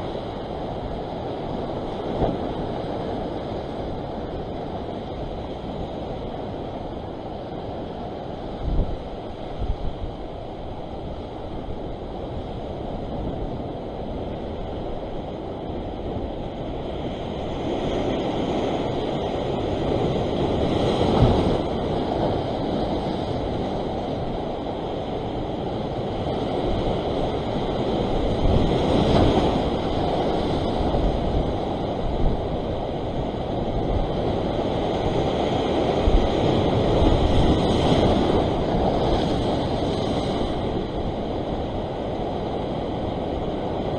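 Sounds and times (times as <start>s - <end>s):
ocean surf breaking on rocks: 0.0s - 43.9s
wind buffeting microphone: 0.0s - 43.9s.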